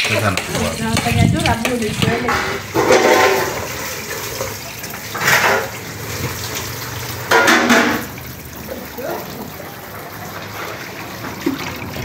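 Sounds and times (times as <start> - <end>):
tap water running into sink: 0.0 - 12.0
water splashing: 0.0 - 12.0.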